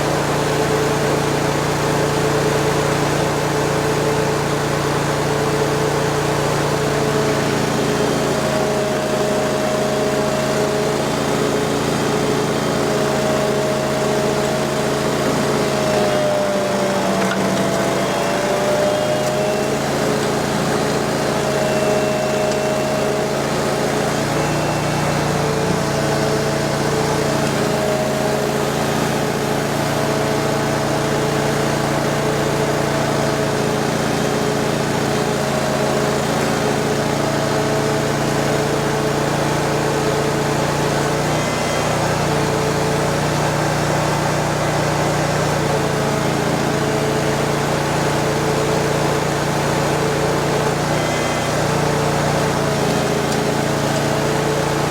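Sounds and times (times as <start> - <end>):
vacuum excavator engine running: 0.0 - 54.9.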